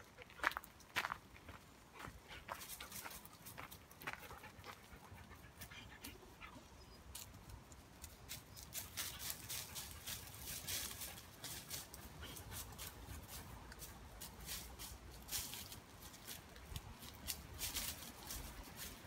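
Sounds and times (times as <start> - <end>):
footsteps and paws on gravel: 0.0 - 19.0.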